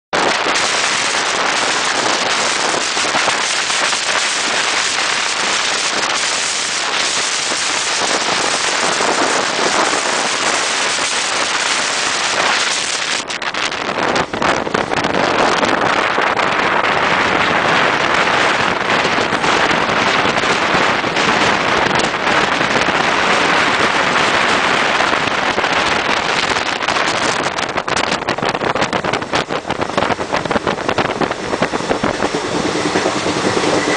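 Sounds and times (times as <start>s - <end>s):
wind and wheel-on-rail noise: 0.2s - 33.9s.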